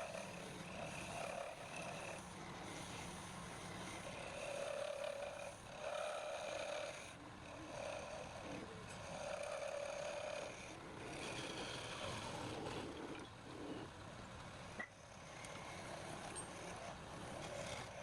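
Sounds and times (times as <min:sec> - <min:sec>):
wood lathe cutting: 0:00.0 - 0:13.0, 0:15.0 - 0:18.0.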